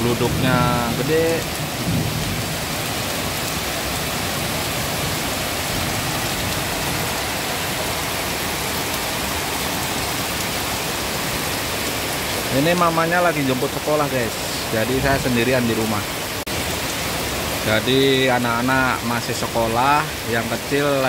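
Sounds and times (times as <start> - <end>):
heavy rain on street and leaves: 0.0 - 21.0.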